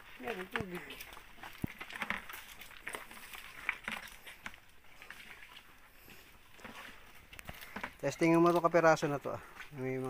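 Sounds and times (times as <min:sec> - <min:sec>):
footsteps on gravel: 0:00.0 - 0:10.0.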